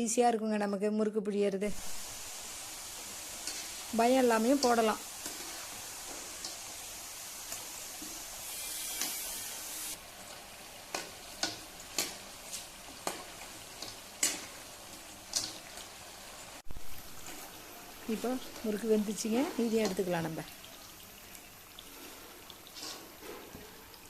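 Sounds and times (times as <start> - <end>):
food deep-frying in oil: 1.7 - 24.0
sharp oil crackles: 1.7 - 24.0.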